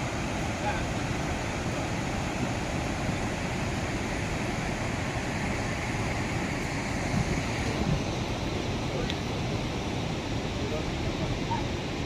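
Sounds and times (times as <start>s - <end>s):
large waterfall rushing: 0.0s - 12.0s.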